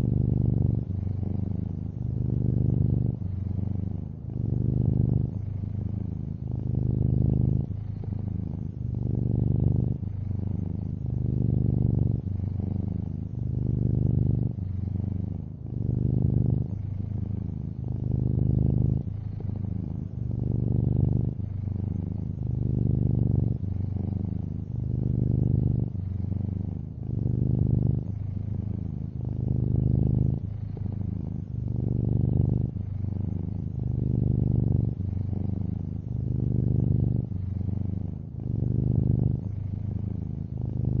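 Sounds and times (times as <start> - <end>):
cat purring: 0.0 - 41.0.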